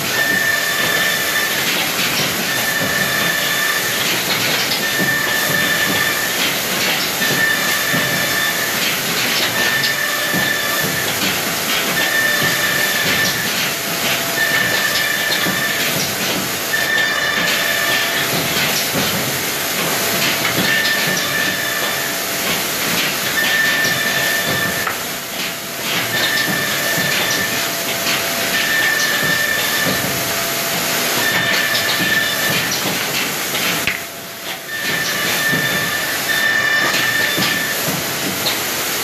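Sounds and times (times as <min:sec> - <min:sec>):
woodworking machine hissing: 0:00.0 - 0:25.0, 0:25.6 - 0:39.0
high machine whine: 0:00.0 - 0:39.0.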